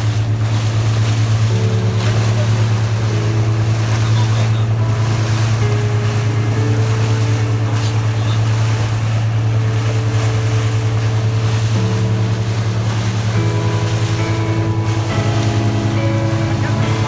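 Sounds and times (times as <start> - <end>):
boat engine droning: 0.0 - 17.0
water noise: 0.0 - 17.0.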